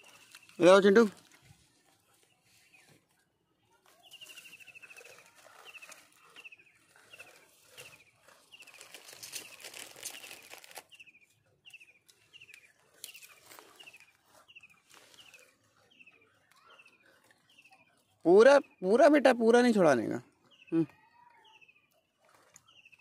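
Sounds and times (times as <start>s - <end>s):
crinkling and rustling: 0.0s - 18.2s, 22.2s - 23.0s
bird chirping: 3.8s - 23.0s.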